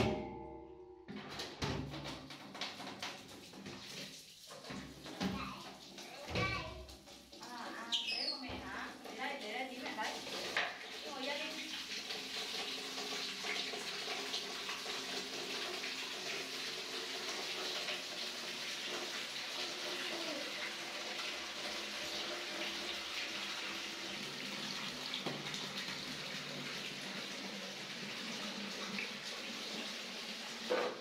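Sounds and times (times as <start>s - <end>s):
shower water splashing into basin: 1.4s - 31.0s.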